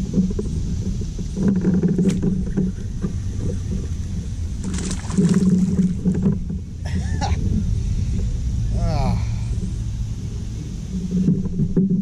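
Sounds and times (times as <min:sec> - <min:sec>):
low rumble of kayak on water: 0:00.0 - 0:12.0.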